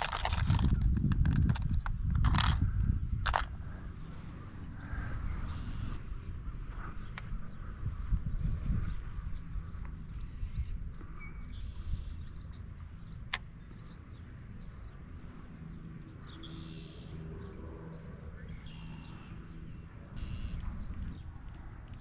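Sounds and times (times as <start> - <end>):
wind buffeting microphone: 0.0 - 16.5, 17.1 - 22.0
birds calling: 3.4 - 6.0, 6.6 - 22.0.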